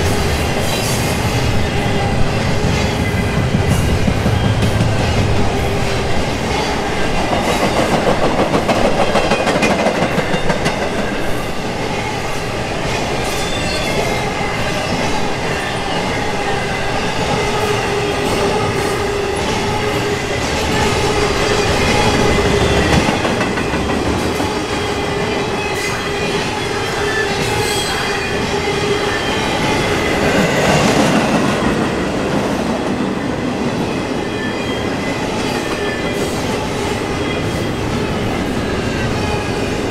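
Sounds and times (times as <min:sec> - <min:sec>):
train wheels rumbling and clacking: 0:00.0 - 0:39.9.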